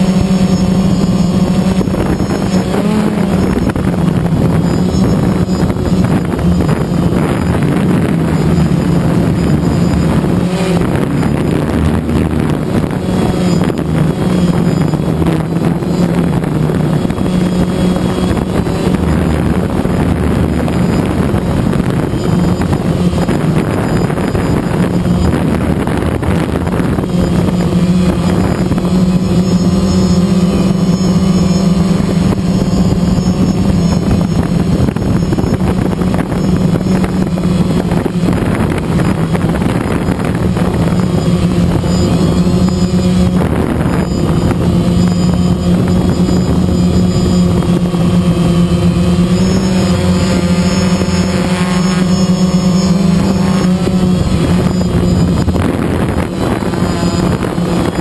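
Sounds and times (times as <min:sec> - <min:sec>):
drone propellers buzzing: 0:00.0 - 0:58.0
wind rush on microphone: 0:00.0 - 0:58.0.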